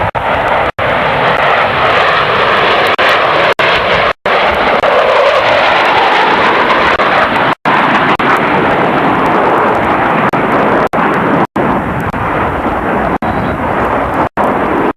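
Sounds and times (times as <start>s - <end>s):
airplane roaring past: 0.0s - 14.9s.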